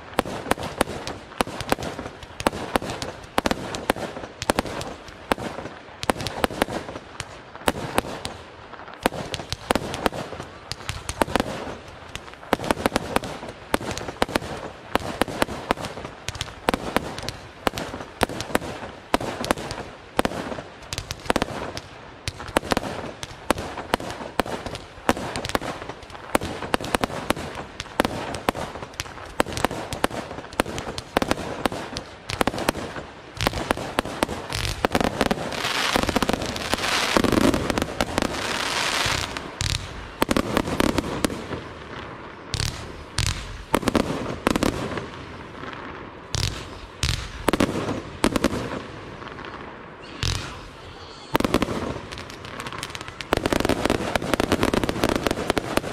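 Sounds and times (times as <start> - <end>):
fireworks bursts and bangs: 0.0 - 55.9.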